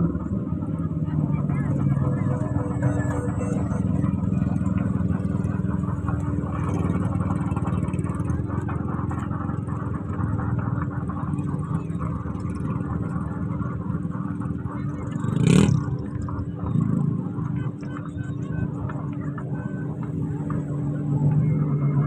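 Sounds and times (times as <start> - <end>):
crowd: 0.0 - 22.0
vehicle engines running: 0.0 - 22.0.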